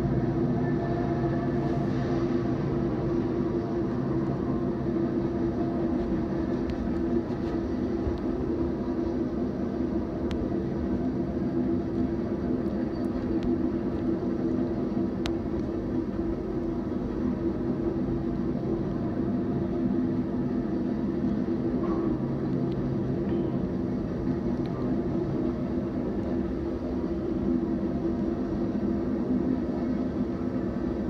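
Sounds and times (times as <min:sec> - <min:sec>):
low hum: 0:00.0 - 0:31.0
train wheels rumbling on rail: 0:00.0 - 0:31.0.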